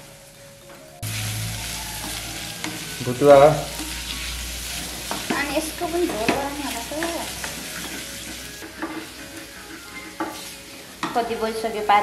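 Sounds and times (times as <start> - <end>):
meat sizzling in a pan: 0.0 - 12.0
utensil stirring: 1.0 - 11.7.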